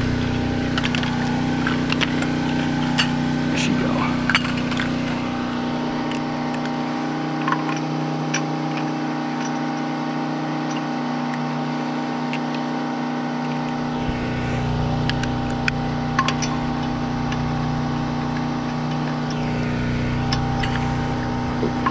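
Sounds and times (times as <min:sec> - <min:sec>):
machine drone: 0:00.0 - 0:21.9.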